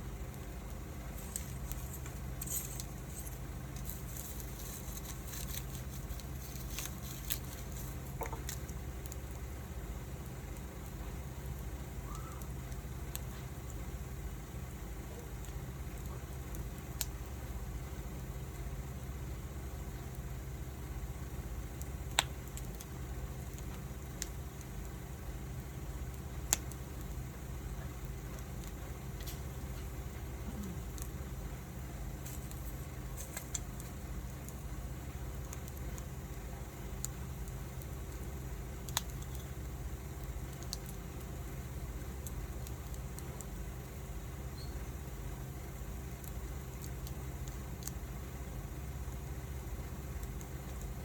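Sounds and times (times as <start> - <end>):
low steady rumble of fire: 0.0 - 51.0
wood fire crackling and popping: 0.0 - 51.0.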